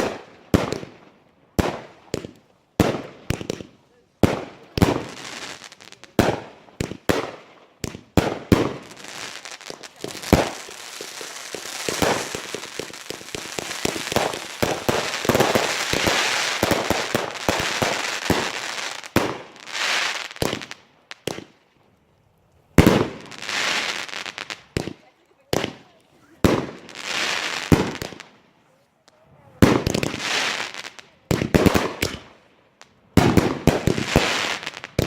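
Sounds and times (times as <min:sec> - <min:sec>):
fireworks crackling and popping: 0:00.0 - 0:35.0
fireworks banging: 0:01.6 - 0:21.5, 0:22.8 - 0:28.3, 0:29.6 - 0:32.3, 0:33.2 - 0:35.0.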